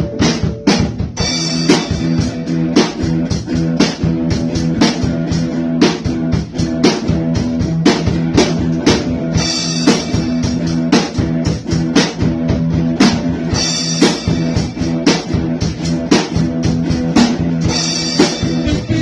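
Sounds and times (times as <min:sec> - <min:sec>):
drum-kit beat: 0:00.0 - 0:19.0
guitar: 0:00.0 - 0:19.0.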